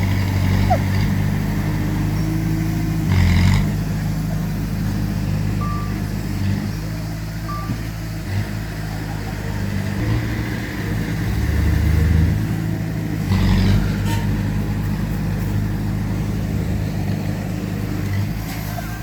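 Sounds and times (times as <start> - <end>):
heavy diesel engines working: 0.0 - 19.0.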